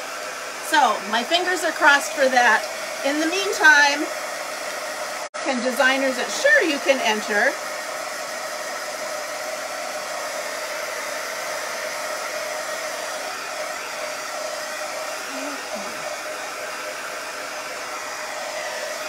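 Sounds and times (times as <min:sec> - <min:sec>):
heat gun blowing air: 0:00.0 - 0:19.0.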